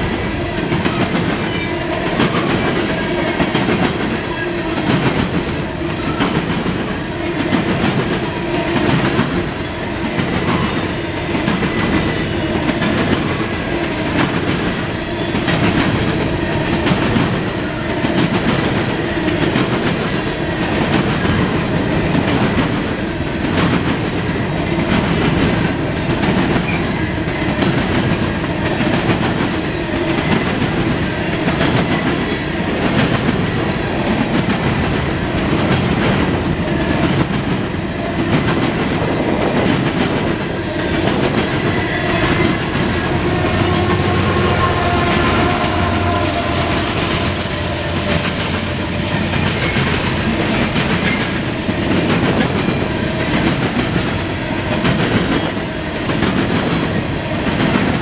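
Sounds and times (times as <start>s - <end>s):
diesel locomotive engine hum: 0.0s - 58.0s
freight train wheels clattering: 0.0s - 58.0s.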